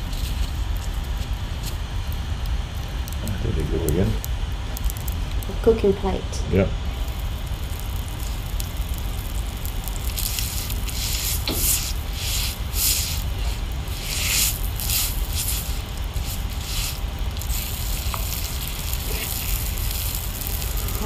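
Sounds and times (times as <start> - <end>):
liquid sizzling on hot stone: 0.0 - 21.0
low hum: 0.0 - 21.0.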